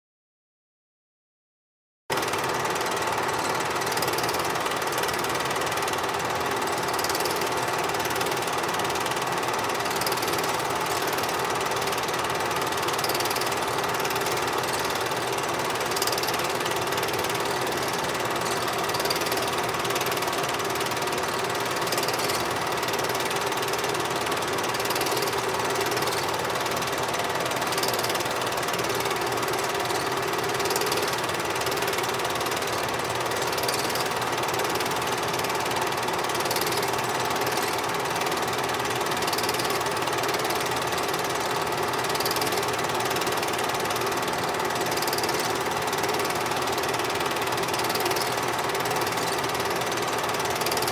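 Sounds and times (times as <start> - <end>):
film projector whirring and clattering: 2.1 - 50.9.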